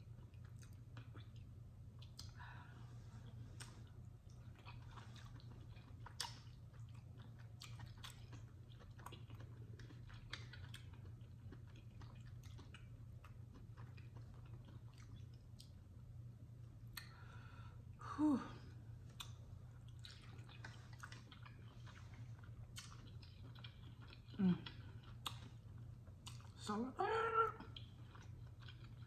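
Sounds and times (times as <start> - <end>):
wet chewing with mouth clicks: 0.0 - 2.6, 3.2 - 16.0, 19.0 - 29.0.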